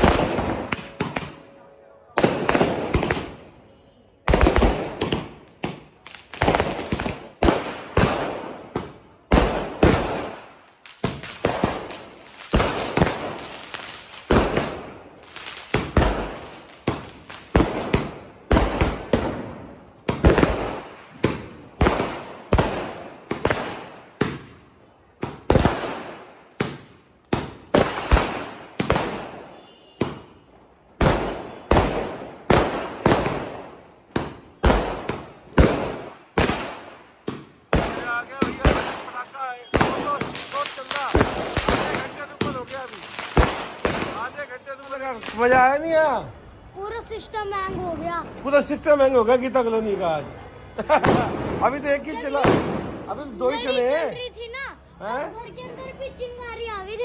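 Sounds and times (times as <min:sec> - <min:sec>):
firework bangs: 0:00.0 - 0:54.7.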